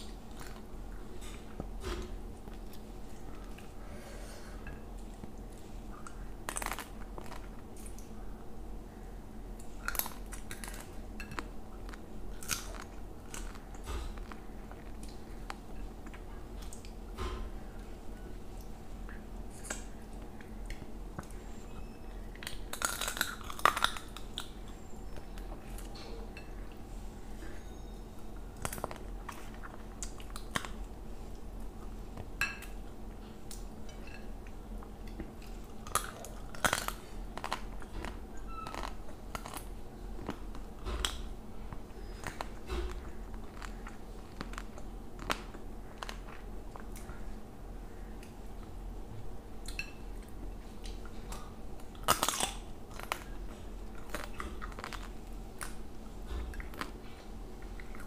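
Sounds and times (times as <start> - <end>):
person chewing food: 0.0 - 8.4, 9.5 - 48.9, 49.6 - 58.0
food crunching: 4.5 - 8.2, 9.5 - 47.5, 49.6 - 58.0.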